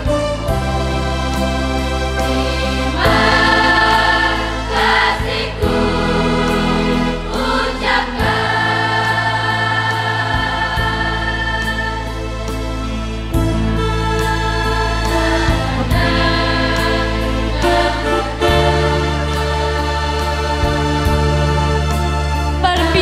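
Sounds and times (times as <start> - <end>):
choir singing in parts: 0.0 - 23.0
low backing notes: 0.0 - 23.0.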